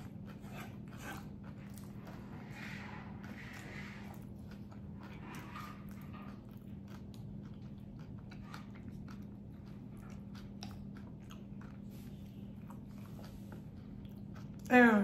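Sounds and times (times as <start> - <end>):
person chewing food: 0.0 - 14.7
steady low hum: 0.0 - 15.0.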